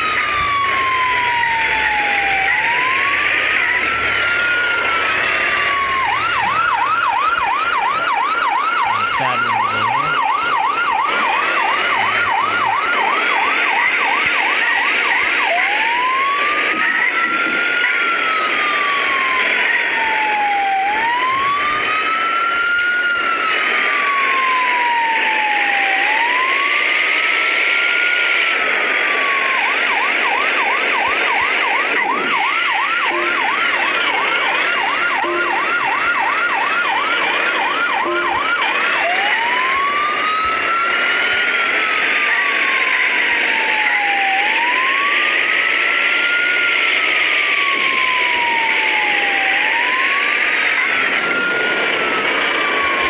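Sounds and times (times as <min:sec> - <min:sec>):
ambulance siren yelping and wailing: 0:00.0 - 0:53.0.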